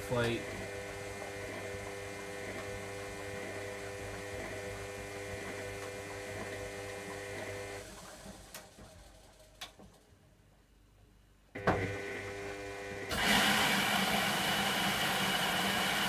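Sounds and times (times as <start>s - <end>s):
washing machine pump humming: 0.0s - 8.8s, 11.6s - 16.0s.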